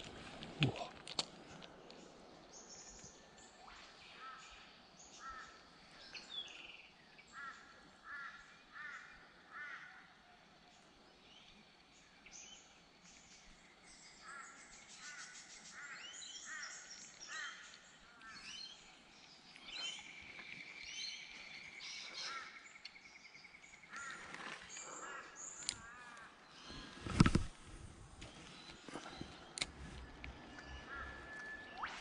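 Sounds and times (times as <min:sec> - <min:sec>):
birds chirping: 0:00.6 - 0:07.7, 0:10.8 - 0:32.0.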